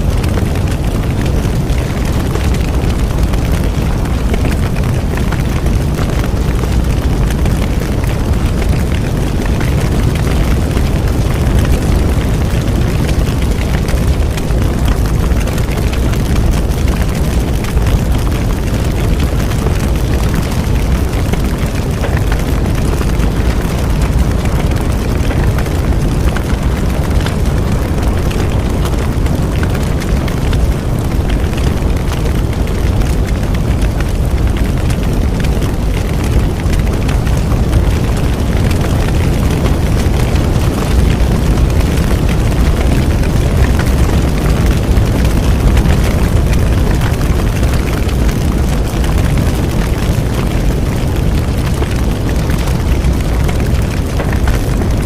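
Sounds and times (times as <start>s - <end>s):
bonfire roaring: 0.0s - 55.0s
wood crackling: 0.0s - 55.0s.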